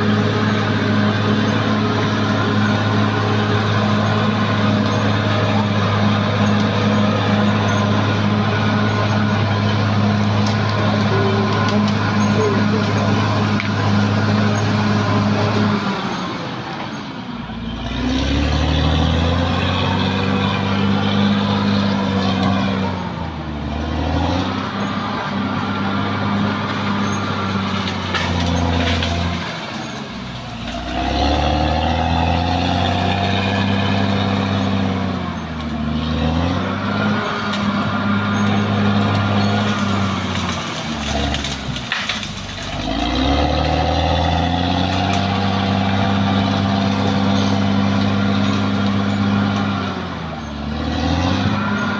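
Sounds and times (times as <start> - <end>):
bulldozer diesel engine working hard: 0.0 - 51.9.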